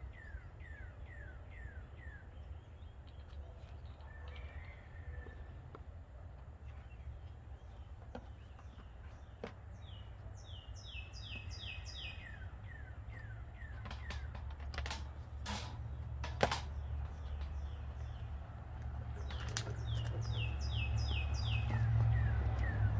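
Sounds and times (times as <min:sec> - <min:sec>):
bird chirping: 0:00.0 - 0:05.5, 0:06.4 - 0:22.9.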